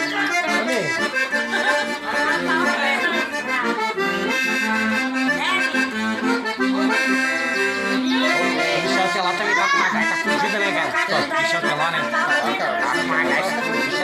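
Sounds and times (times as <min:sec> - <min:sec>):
accordion playing lively tune: 0:00.0 - 0:14.0.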